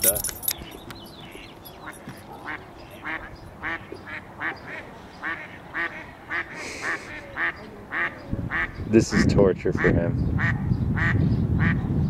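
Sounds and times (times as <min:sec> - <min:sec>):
ducks quacking: 0:00.6 - 0:11.8.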